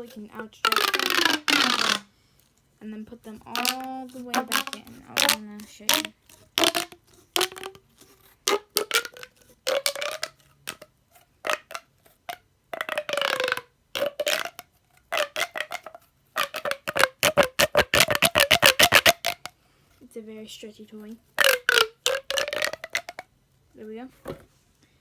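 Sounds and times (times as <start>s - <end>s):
plastic pop tube clicking: 0.0s - 2.1s, 3.4s - 19.5s, 21.4s - 23.3s.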